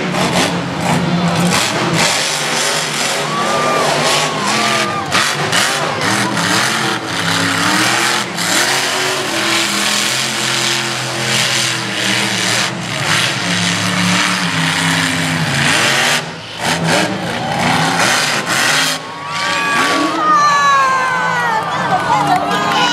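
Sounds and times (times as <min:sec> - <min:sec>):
truck engine revving hard: 0:00.0 - 0:22.7.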